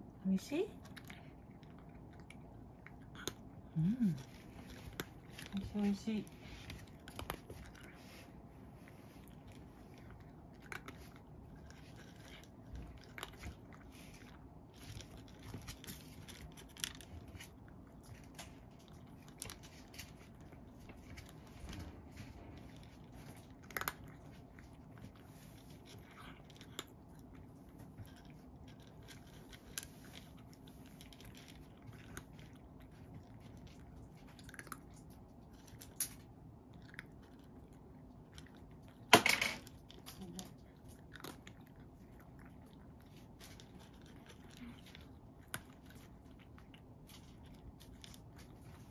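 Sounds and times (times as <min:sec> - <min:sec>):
cat crunching dry kibble: 0:00.0 - 0:48.9.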